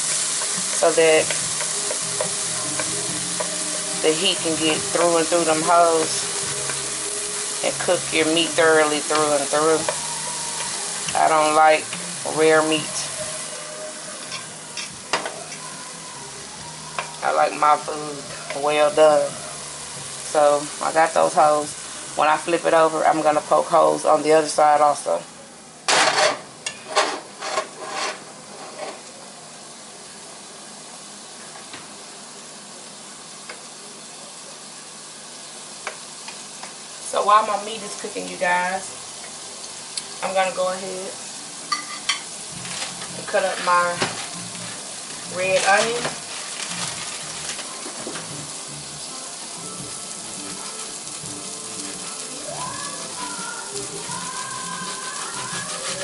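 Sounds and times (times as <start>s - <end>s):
burger patties sizzling in skillet: 0.0s - 56.0s
faint background music: 0.0s - 56.0s.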